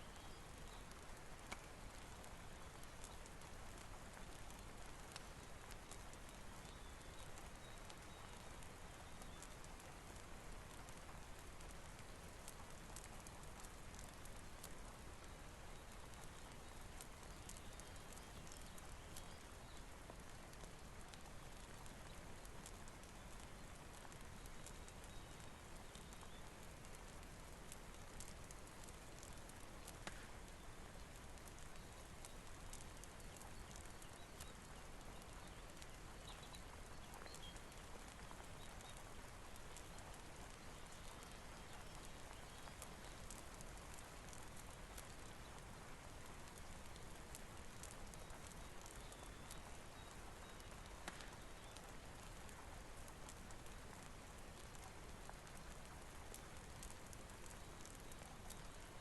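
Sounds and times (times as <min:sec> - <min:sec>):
rain hiss: 0:00.0 - 0:59.0
wood fire crackling: 0:00.0 - 0:59.0.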